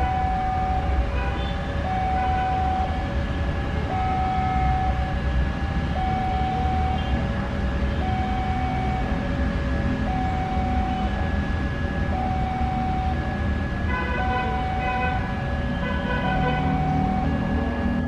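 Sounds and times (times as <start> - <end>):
level crossing alarm tones: 0.0 - 18.0
traffic rumble: 0.0 - 18.0.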